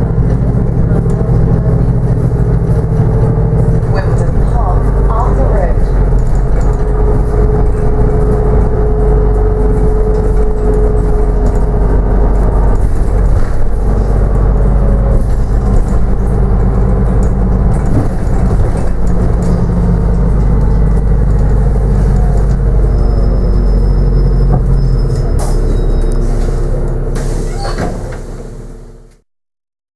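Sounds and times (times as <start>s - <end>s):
bus drivetrain hum: 0.0s - 29.2s
road rumble: 0.0s - 29.2s.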